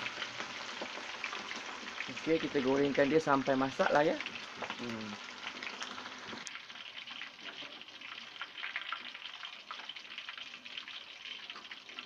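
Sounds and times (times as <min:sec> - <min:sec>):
deep-frying sizzle with pops: 0:00.0 - 0:12.0.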